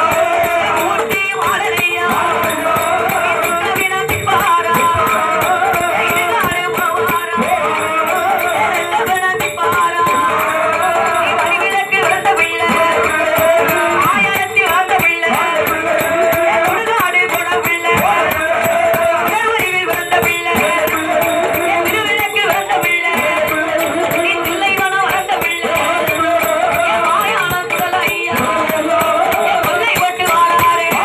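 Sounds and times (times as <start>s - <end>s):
jingling rattling bow beat: 0.0s - 31.0s
woman singing into a microphone: 0.0s - 31.0s.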